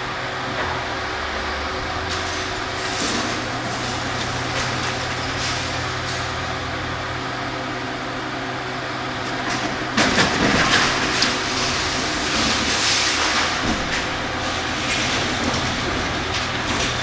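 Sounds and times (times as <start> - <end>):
diesel machinery humming: 0.0 - 17.0.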